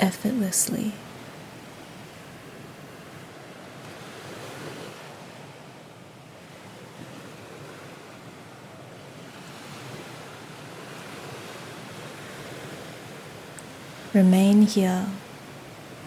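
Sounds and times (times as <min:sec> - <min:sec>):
ocean waves washing on shore: 0:00.0 - 0:16.0.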